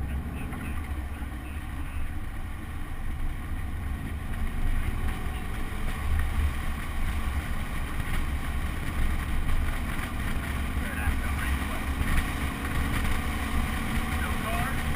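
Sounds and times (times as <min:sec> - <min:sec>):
car engine running: 0:00.0 - 0:14.9.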